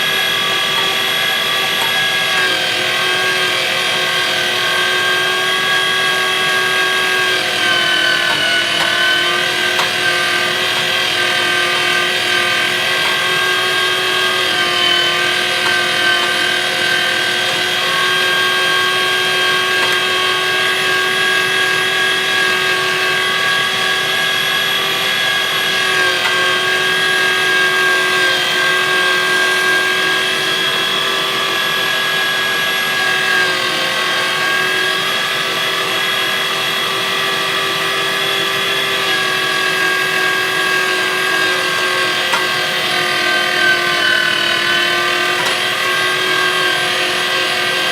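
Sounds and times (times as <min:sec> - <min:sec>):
electric meat grinder running: 0:00.0 - 0:47.9.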